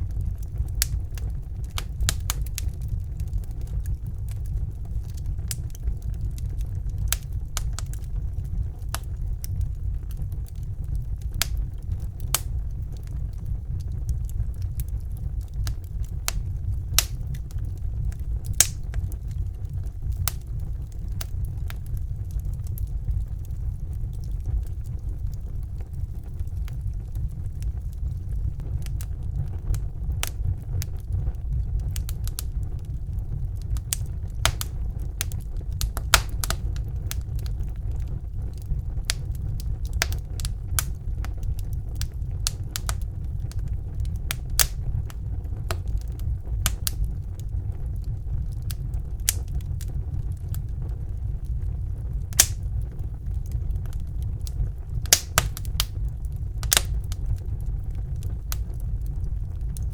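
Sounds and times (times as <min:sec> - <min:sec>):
burning wood crackling: 0:00.0 - 0:59.9
fire flames rumbling: 0:00.0 - 0:59.9.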